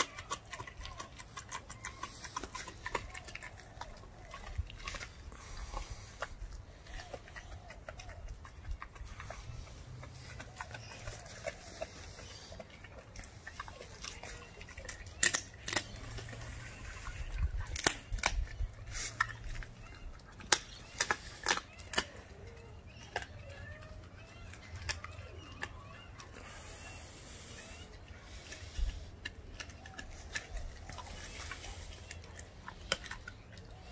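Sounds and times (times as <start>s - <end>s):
puppy crunching bone: 0.0s - 33.9s
soft chewing: 0.0s - 33.9s.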